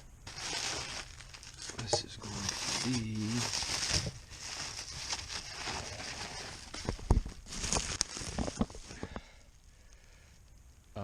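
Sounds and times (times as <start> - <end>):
handling rustling: 0.3 - 9.3.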